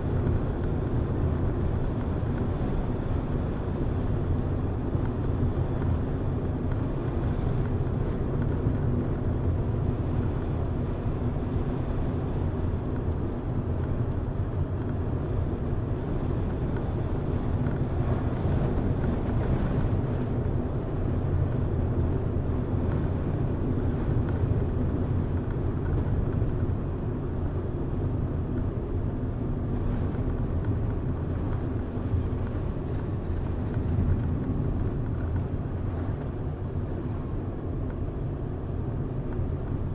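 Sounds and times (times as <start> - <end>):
car engine and tyres droning: 0.0 - 39.9.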